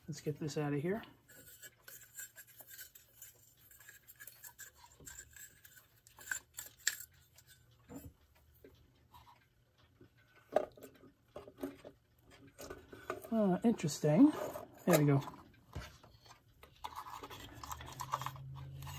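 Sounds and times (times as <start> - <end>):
clock movement scraping and clicking: 0.1 - 18.9.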